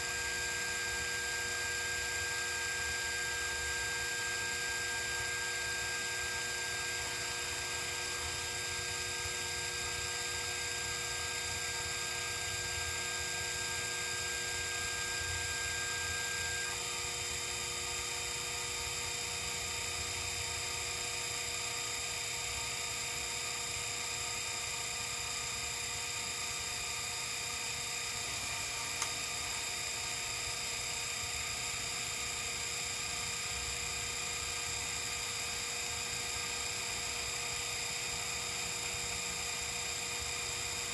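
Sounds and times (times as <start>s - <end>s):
milling machine humming: 0.0s - 40.9s.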